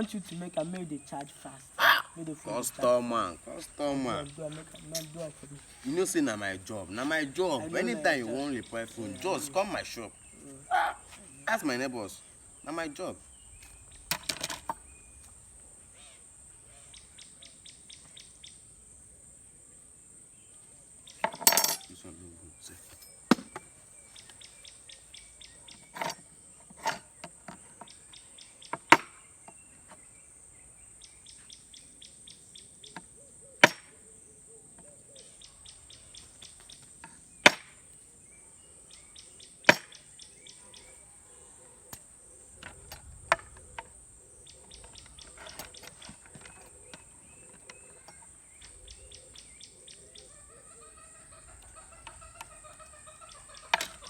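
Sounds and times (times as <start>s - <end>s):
wavering calls: 0.0s - 18.8s, 19.4s - 54.0s
crickets chirping: 0.0s - 54.0s.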